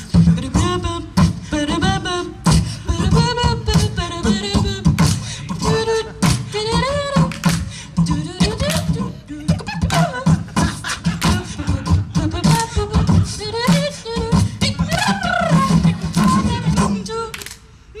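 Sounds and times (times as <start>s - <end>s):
beatboxing kicks and snares: 0.0s - 17.5s.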